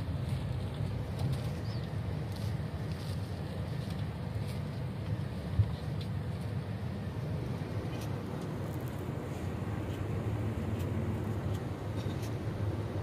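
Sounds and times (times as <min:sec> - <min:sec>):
coach engine rumbling: 0:00.0 - 0:13.0.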